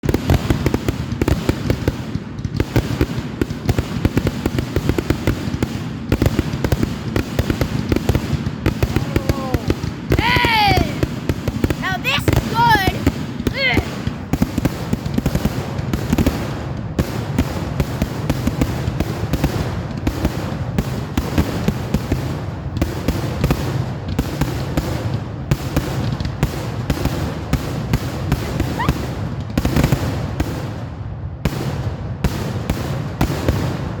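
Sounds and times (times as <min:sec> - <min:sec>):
fireworks cracking and popping: 0:00.0 - 0:34.0.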